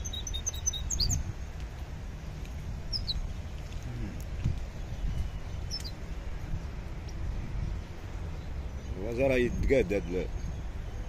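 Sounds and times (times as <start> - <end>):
bird twittering and chirping: 0.0 - 1.6, 2.2 - 11.0.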